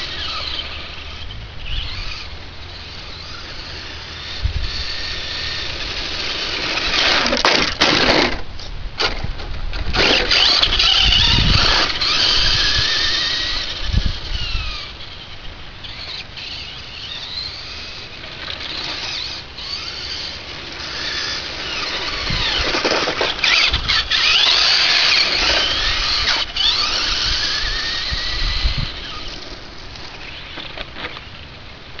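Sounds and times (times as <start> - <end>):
electric motor and gears whining: 0.0 - 32.0
tyre noise on gritty asphalt: 3.2 - 14.8, 15.8 - 31.6.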